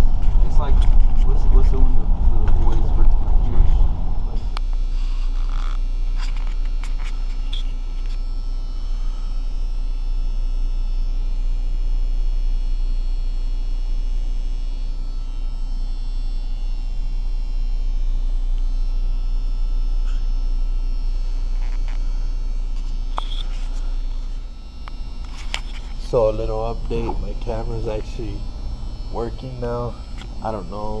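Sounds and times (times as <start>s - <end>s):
faint high whines: 0.0s - 31.0s
room noise rumble and hum: 0.0s - 31.0s.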